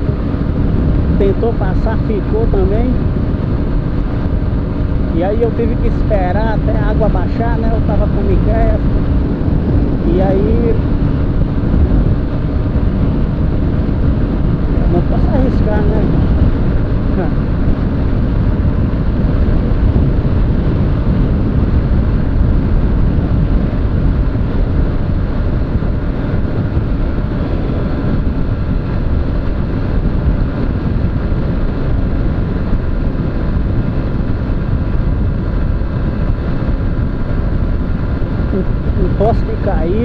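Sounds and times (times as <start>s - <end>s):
motorcycle engine running: 0.0s - 40.0s
wind rumble on microphone: 0.0s - 40.0s.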